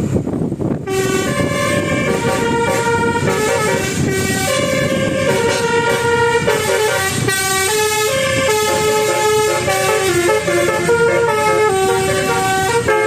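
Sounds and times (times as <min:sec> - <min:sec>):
bus horn playing a tune: 0:00.8 - 0:13.0.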